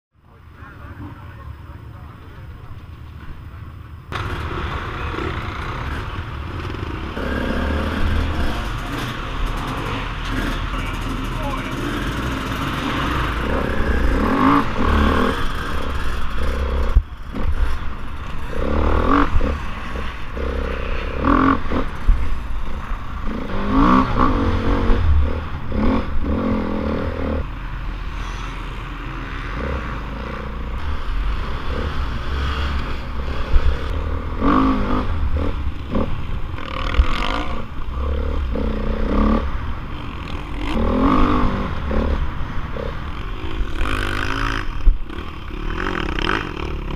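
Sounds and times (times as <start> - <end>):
motocross bike engine revving: 4.1 - 46.9.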